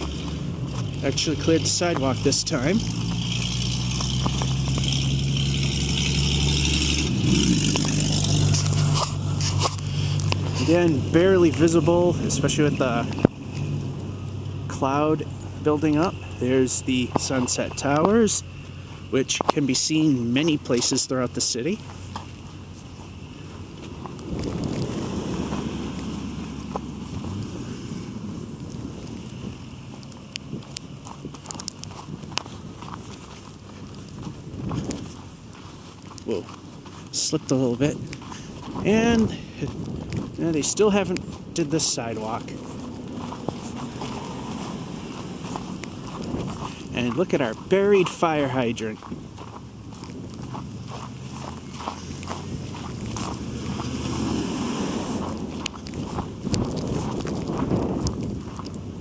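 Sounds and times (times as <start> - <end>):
footsteps crunching in snow: 0.0 - 59.0
vehicle engine running: 0.0 - 59.0
wind rumble on microphone: 0.0 - 59.0.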